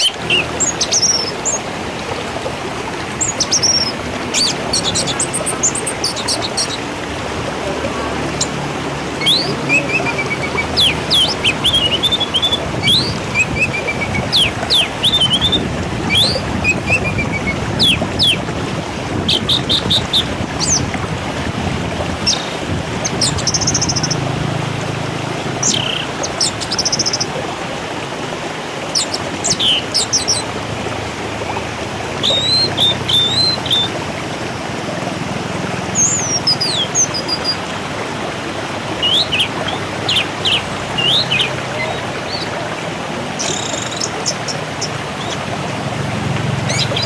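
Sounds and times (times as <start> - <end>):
birds chirping and trilling: 0.0 - 21.1, 22.0 - 27.5, 28.8 - 37.8, 38.8 - 47.0
steady rushing noise: 0.0 - 43.4, 44.3 - 47.0.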